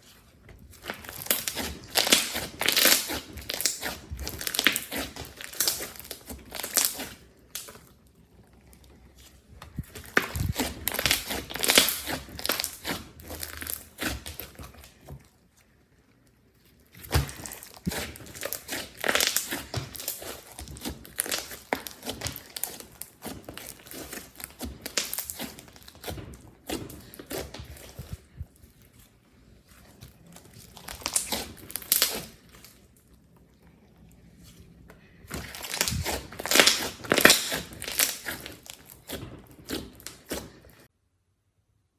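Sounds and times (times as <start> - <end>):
slime squished by hand: 0.0 - 15.6, 16.5 - 33.2, 33.9 - 40.9
crackling and popping: 0.6 - 15.3, 16.2 - 28.8, 30.0 - 33.4, 35.3 - 40.9.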